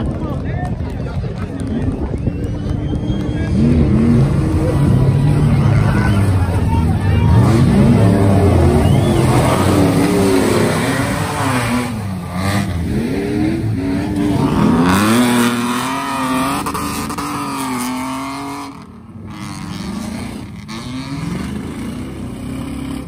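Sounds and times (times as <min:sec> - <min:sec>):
racing engine revving hard: 0:03.2 - 0:23.0.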